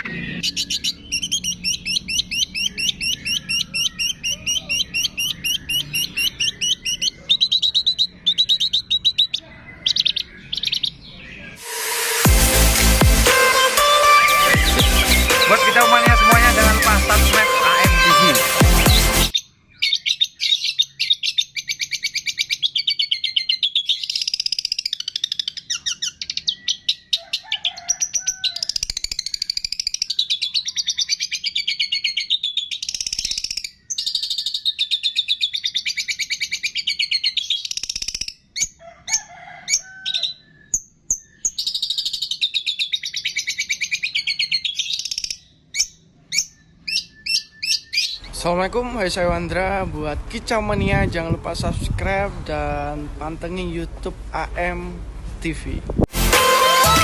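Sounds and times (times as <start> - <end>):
songbird chirping and trilling: 0.0 - 53.7.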